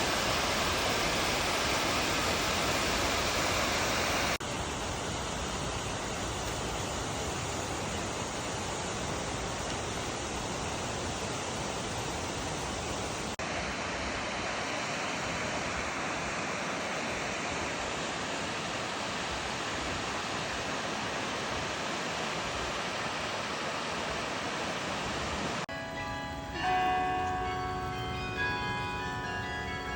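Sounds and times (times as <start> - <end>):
waterfall rushing: 0.0 - 25.7.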